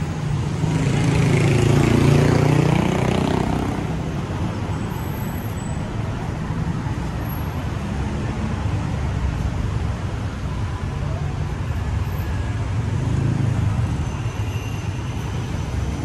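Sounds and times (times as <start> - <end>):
steady traffic noise: 0.0 - 16.0.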